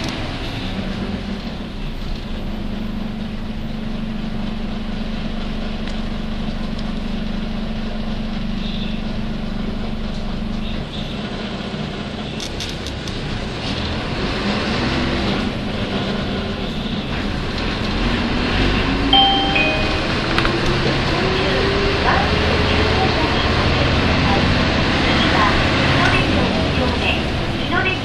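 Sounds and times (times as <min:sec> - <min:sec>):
bus interior running hum: 0:00.0 - 0:28.0.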